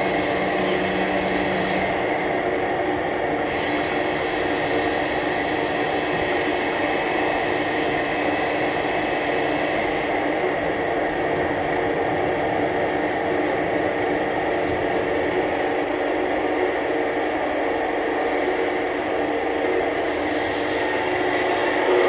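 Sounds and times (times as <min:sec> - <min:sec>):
grinder machine hum and whine: 0:00.0 - 0:22.0.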